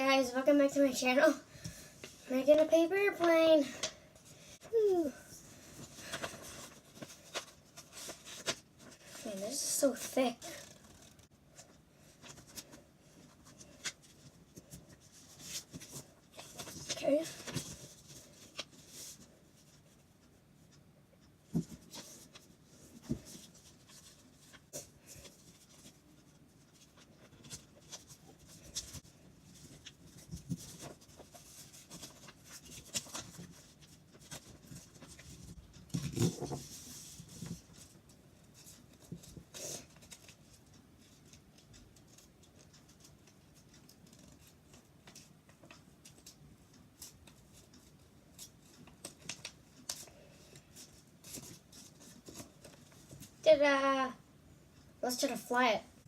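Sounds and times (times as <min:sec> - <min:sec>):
paper folding and rustling: 0:01.3 - 0:20.4, 0:21.4 - 0:53.4.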